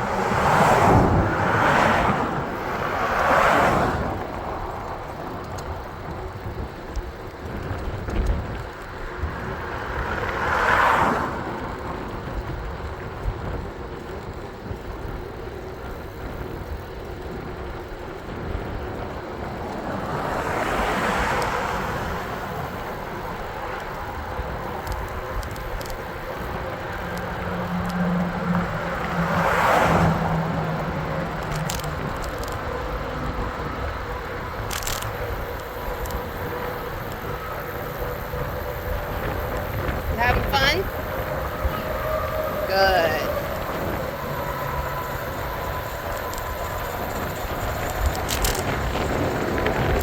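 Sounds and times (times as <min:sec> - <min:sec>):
low traffic rumble: 0:00.0 - 0:50.0
vehicles passing: 0:00.0 - 0:50.0.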